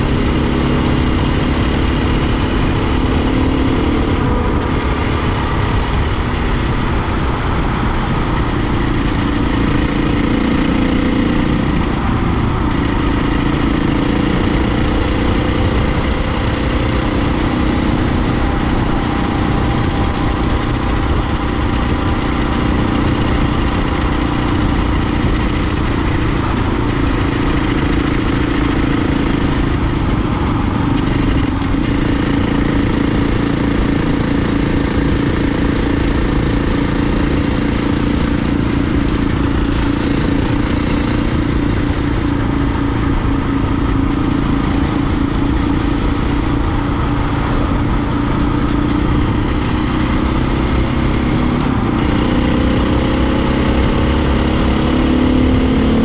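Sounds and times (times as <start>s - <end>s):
dirt bike engine running: 0.0s - 56.0s
wind noise: 0.0s - 56.0s.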